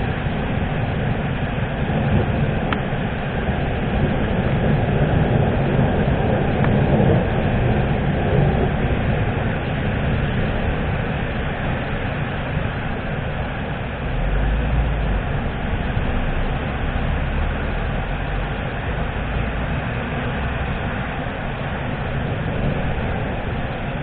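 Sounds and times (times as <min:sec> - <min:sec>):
heavy rain: 0:00.0 - 0:24.0
thunder rumbling: 0:00.0 - 0:24.0.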